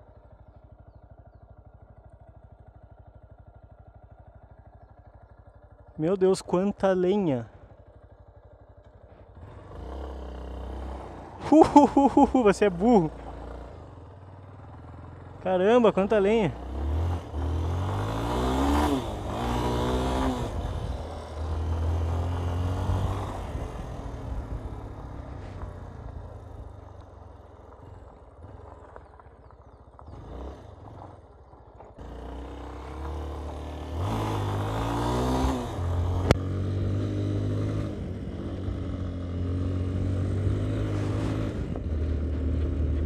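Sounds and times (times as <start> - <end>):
motorcycle engine revving: 6.7 - 43.0.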